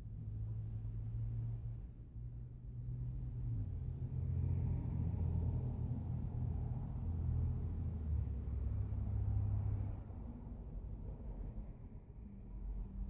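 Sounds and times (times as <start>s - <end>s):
car engine rumble from cabin: 0.0s - 13.0s.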